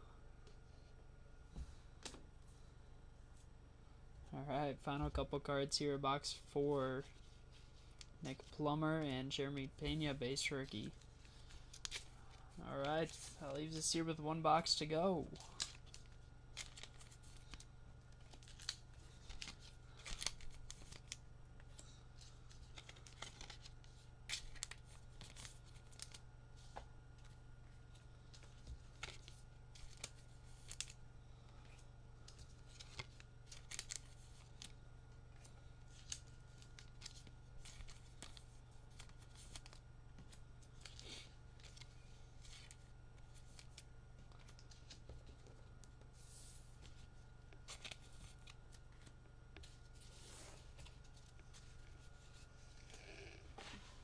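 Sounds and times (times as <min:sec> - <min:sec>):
faint low hum: 0:00.0 - 0:54.0
cards and packaging rustling: 0:06.9 - 0:53.0.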